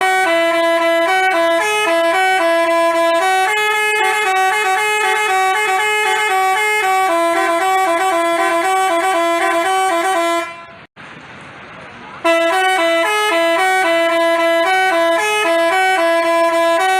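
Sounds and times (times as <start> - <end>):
bus horn playing a tune: 0.0 - 10.9, 12.2 - 16.9.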